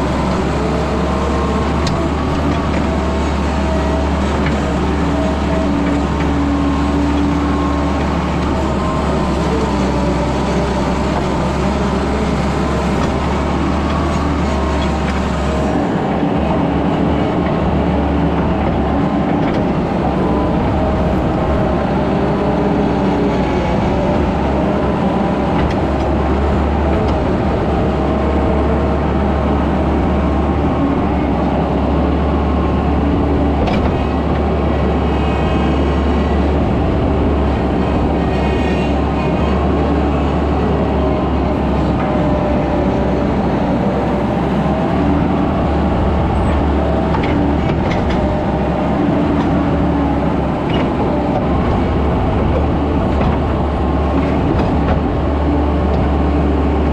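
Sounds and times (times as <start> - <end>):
skid steer engine running: 0.0 - 56.9.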